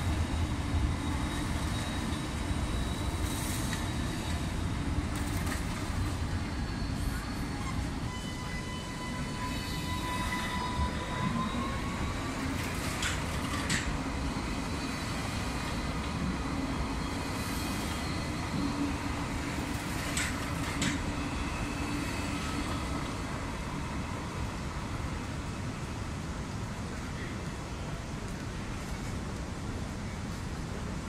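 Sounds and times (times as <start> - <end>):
tram rolling rumble: 0.0 - 31.0.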